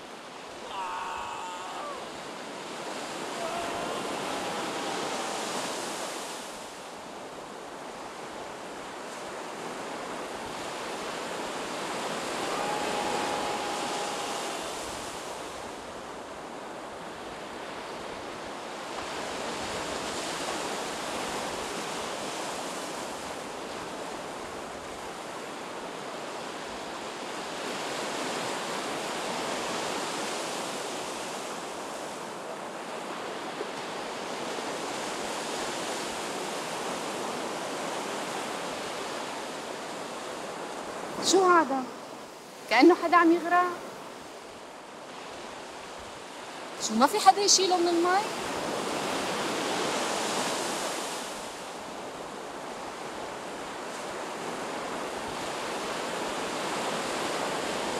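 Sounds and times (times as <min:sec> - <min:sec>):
sea surf breaking on beach: 0:00.0 - 0:57.9.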